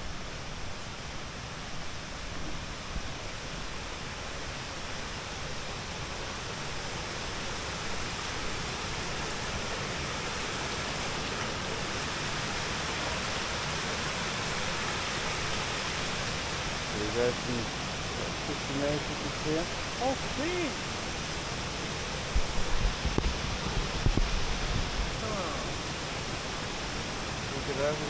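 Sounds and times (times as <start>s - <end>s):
water rushing down cascades: 0.0s - 28.0s.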